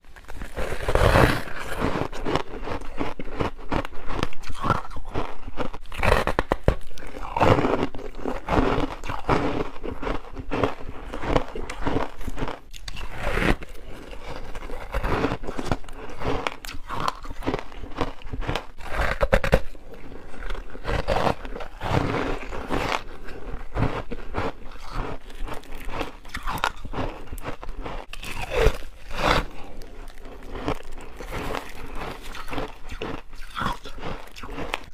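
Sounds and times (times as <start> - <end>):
crunching of frozen ice chewed: 0.0 - 34.9.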